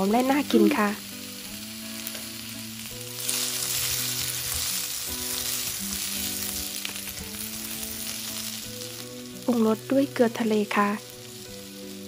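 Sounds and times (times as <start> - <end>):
soft background music: 0.0 - 12.0
vegetables sizzling in a wok: 0.0 - 12.0.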